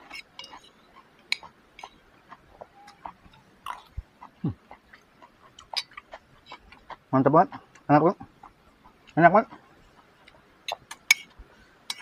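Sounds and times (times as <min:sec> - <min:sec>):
person eating with hands: 0:00.0 - 0:12.0.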